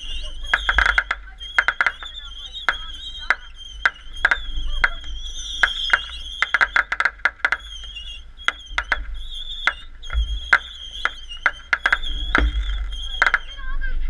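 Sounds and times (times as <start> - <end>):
firework whistle: 0.0 - 13.8
fireworks popping and cracking: 0.0 - 13.8.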